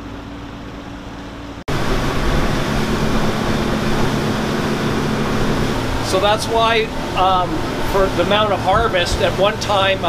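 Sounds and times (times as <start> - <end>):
outboard motors idling: 0.0 - 10.0
rush of wind and water: 1.7 - 10.0.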